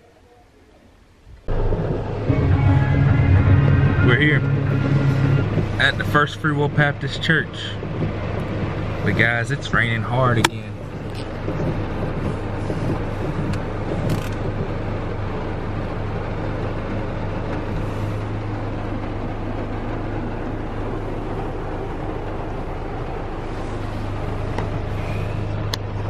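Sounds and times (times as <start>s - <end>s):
engine idling hum: 1.5s - 26.0s
heavy rain on a vehicle: 4.7s - 26.0s.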